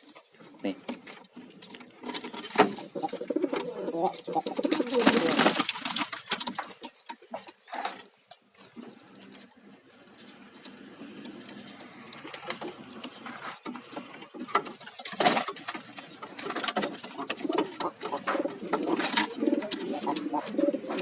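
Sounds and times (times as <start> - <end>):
pigeon cooing: 0.0 - 5.9, 8.6 - 14.9, 15.7 - 21.0.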